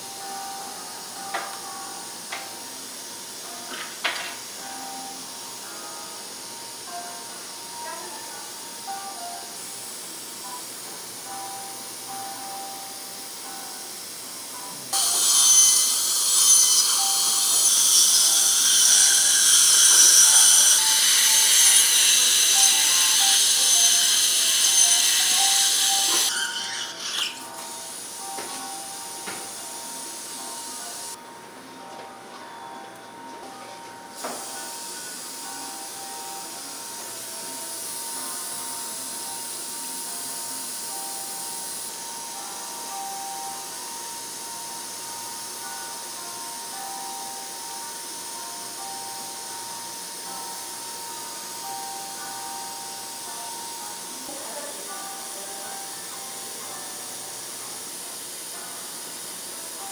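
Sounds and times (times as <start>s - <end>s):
loud steady equipment hiss: 0.0s - 31.8s, 33.9s - 59.9s
faint background music: 0.0s - 59.9s.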